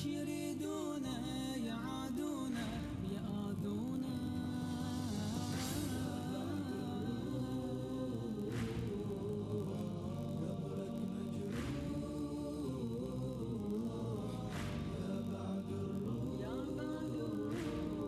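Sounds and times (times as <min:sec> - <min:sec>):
voices chanting without instruments: 0:00.0 - 0:18.0.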